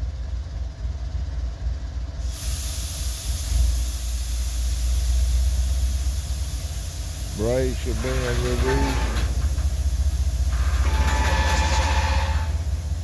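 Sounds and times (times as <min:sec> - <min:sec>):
air brakes hissing: 0:02.1 - 0:13.0.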